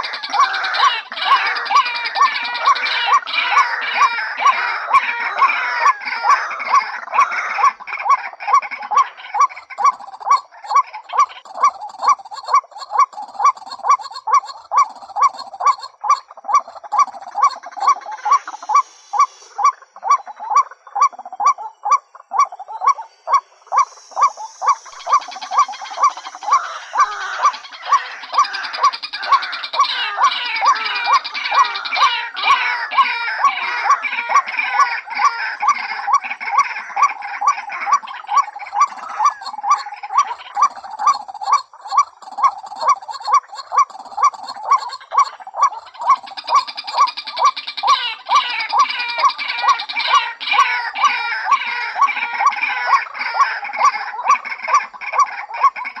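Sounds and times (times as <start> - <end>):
bird harsh repeated calls: 0.0 - 56.0
chorus of bird calls: 0.0 - 56.0.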